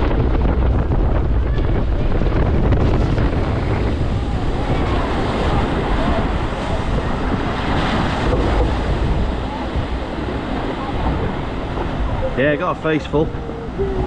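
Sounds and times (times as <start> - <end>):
water rushing: 0.0 - 14.0
wind buffeting microphone: 0.0 - 14.0.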